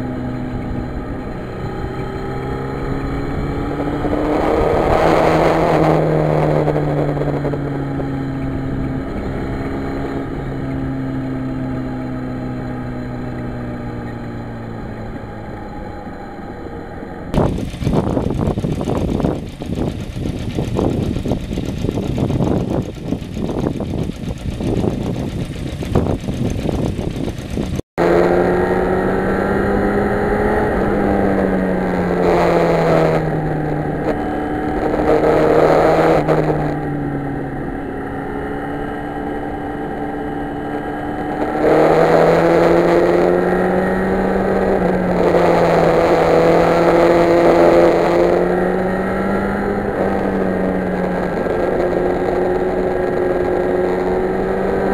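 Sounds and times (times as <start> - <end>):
wind rumble on microphone: 0.0 - 15.1, 17.3 - 54.9
motorcycle engine running: 0.0 - 54.9.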